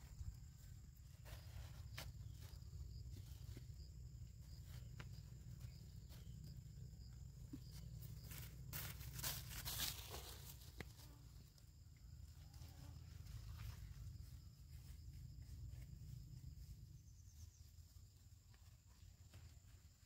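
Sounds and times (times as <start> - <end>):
faint footsteps through grass: 0.0 - 20.0
insects chirring: 0.0 - 20.0.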